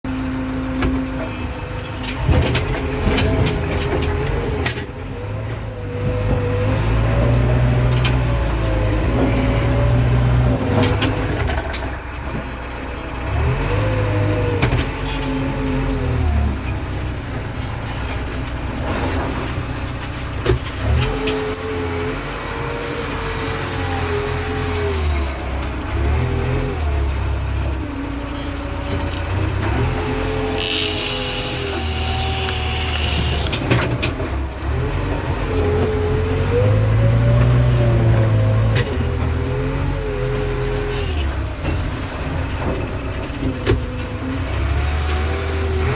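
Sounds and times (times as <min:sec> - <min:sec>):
diesel engine revving: 0:00.1 - 0:45.9.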